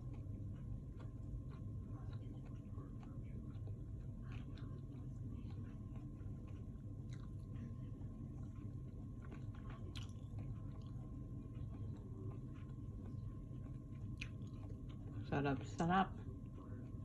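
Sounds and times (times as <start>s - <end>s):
low hum: 0.0s - 17.0s
person chewing food: 0.0s - 17.0s.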